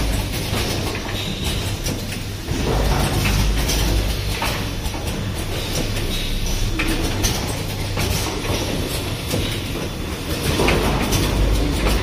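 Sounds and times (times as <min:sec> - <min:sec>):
machine clicks and knocks: 0:00.0 - 0:12.0.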